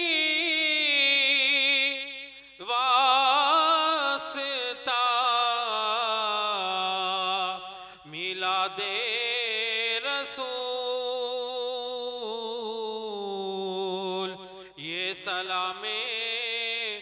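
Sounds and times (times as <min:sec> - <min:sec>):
person chanting: 0:00.0 - 0:17.0.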